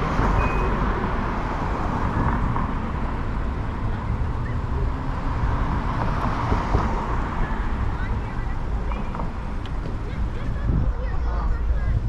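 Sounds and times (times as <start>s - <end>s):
cars driving through: 0.0s - 12.0s
low traffic rumble: 0.0s - 12.0s.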